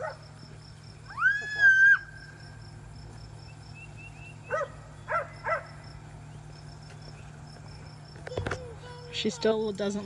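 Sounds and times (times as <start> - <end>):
faint background hum: 0.0 - 10.0.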